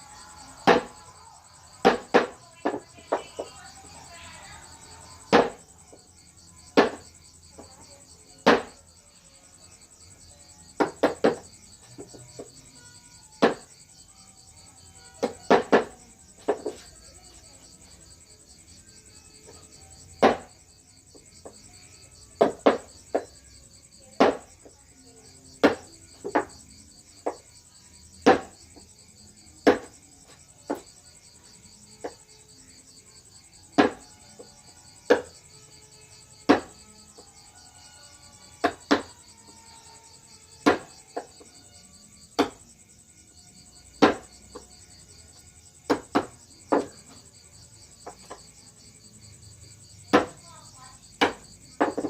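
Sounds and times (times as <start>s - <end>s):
high insect trill: 0.0s - 52.0s.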